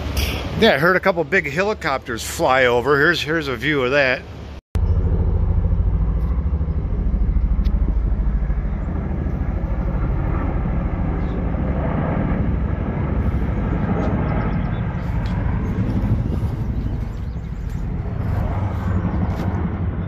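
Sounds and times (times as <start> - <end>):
helicopter engine drone: 3.0 - 20.0
helicopter rotor beat: 3.0 - 20.0.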